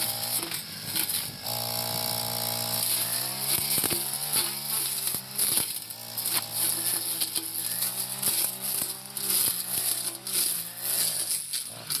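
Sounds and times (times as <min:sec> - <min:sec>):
brush cutter engine cutting brush: 0:00.0 - 0:12.0.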